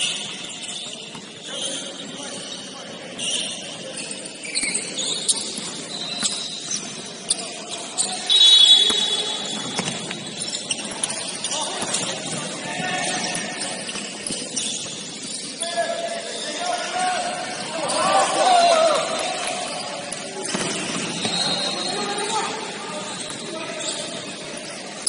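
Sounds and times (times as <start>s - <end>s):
faint players' voices: 0.0s - 25.0s
sneakers squeaking on court: 0.0s - 25.0s.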